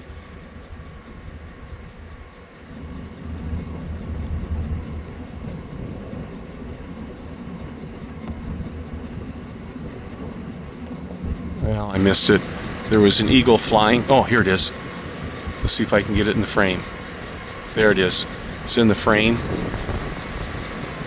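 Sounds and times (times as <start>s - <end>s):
faint steady tones: 0.0s - 21.0s
low uneven rumble: 0.0s - 21.0s.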